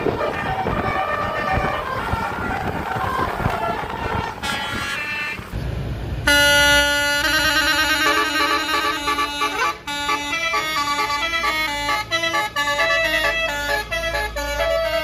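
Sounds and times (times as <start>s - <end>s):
multi-tone air horn tune: 0.0s - 2.4s, 4.4s - 5.5s, 6.2s - 15.0s
traffic noise: 0.0s - 15.0s.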